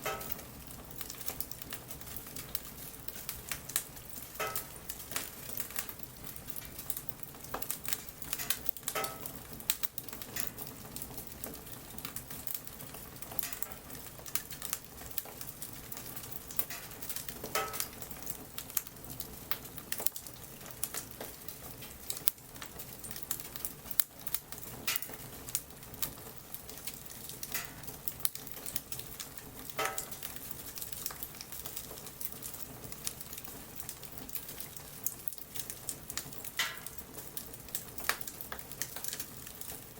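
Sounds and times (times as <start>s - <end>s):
campfire crackling: 0.0s - 39.9s
raindrops pattering: 0.0s - 39.9s.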